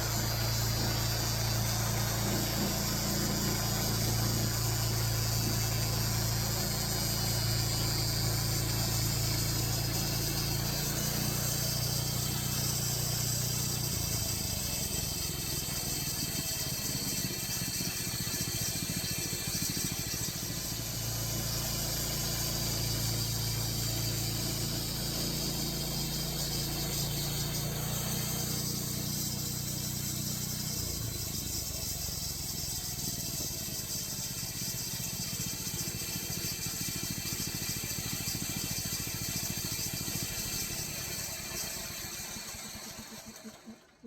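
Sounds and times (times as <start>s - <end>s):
sawmill engine humming: 0.0s - 44.0s.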